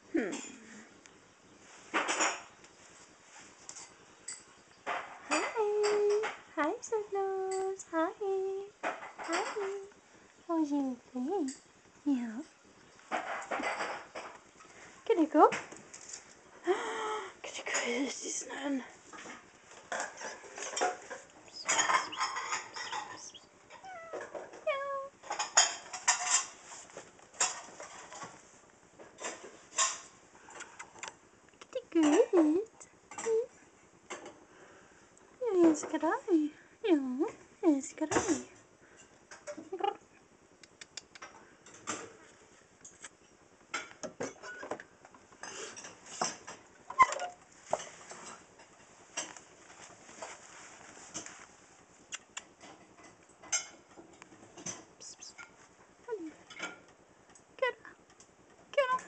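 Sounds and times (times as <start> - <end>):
rustling clattering noises: 0.4 - 16.6, 17.5 - 36.3, 37.2 - 39.7, 41.2 - 59.0.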